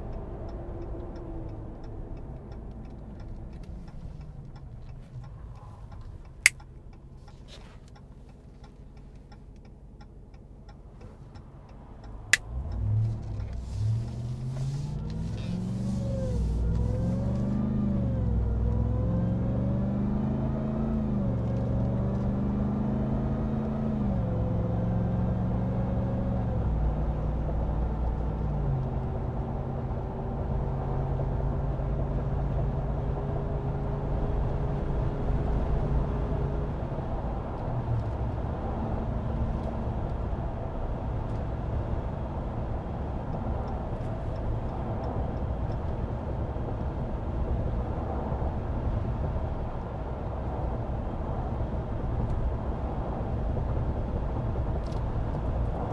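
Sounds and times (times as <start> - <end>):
tyre road noise: 0.1 - 24.8, 33.6 - 55.9.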